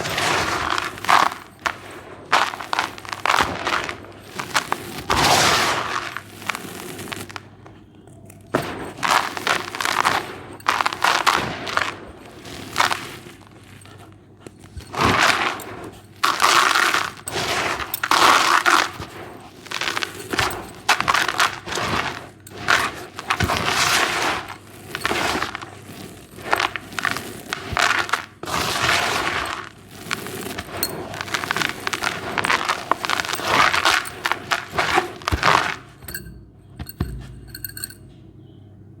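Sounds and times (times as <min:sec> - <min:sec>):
cement crunching and crackling: 0:00.0 - 0:38.2.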